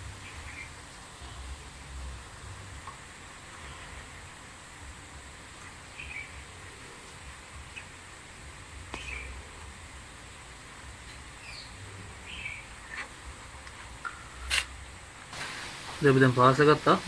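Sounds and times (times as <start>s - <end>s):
steady hiss and hum: 0.0s - 17.0s.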